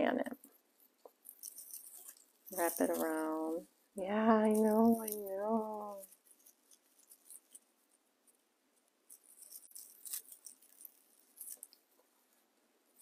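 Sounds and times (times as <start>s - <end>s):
raffia rustling and crinkling: 0.4s - 13.0s.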